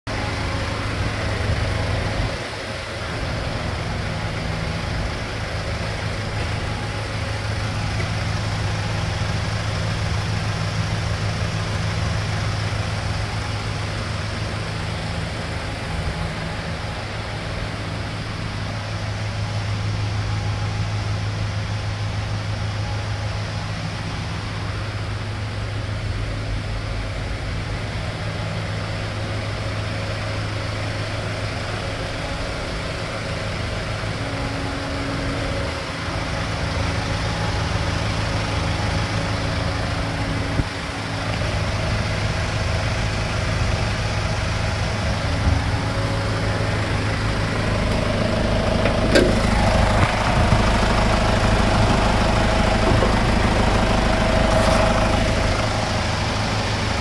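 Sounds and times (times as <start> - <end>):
van engine idling: 0.1 - 57.0.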